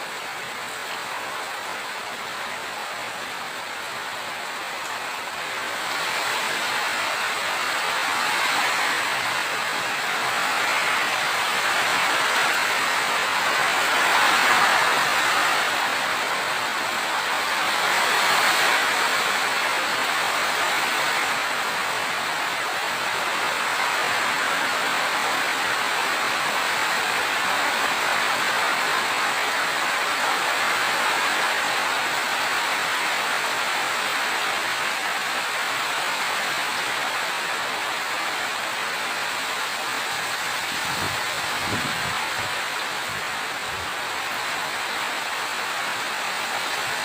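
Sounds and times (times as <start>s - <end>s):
steady rainfall: 0.0s - 47.0s.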